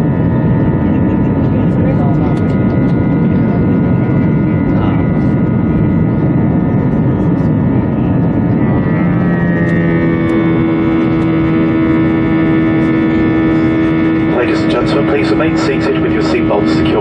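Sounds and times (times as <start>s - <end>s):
jet engines rumbling in cabin: 0.0s - 17.0s
strong steady hum: 0.0s - 17.0s.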